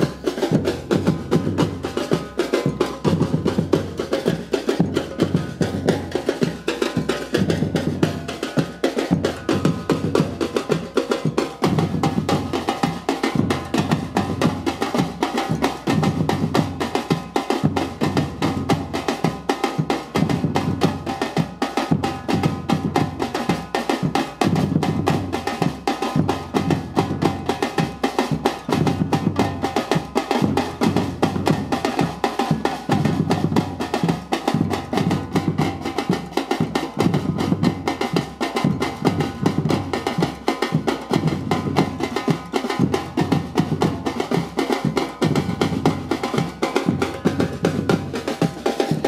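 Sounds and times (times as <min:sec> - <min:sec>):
fast snare drum strokes: 0:00.0 - 0:49.0.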